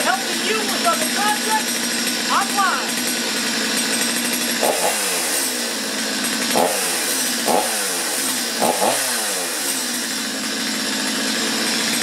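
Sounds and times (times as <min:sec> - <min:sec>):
chainsaw engine revving and idling: 0:00.0 - 0:12.0.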